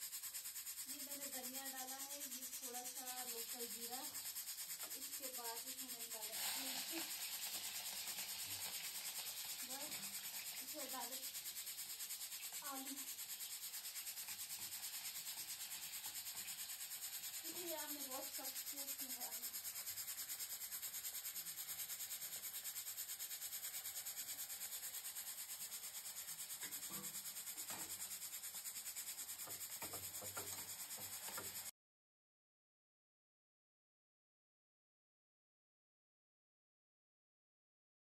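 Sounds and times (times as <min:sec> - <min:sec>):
potatoes sizzling in oil: 0:00.0 - 0:31.7.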